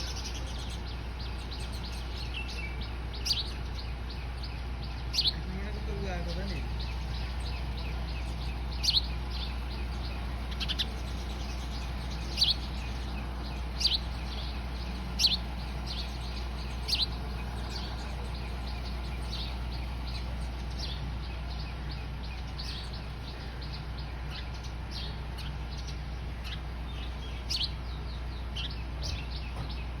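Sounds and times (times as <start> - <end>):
sparrows chirping: 0.0 - 30.0
steady low hum: 0.0 - 30.0.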